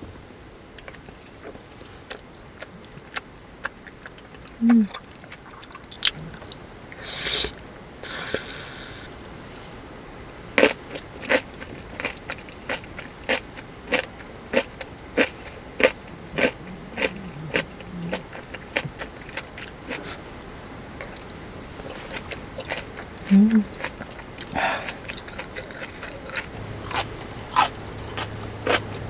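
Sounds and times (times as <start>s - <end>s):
crunchy chewing: 0.8s - 9.1s, 10.5s - 29.0s.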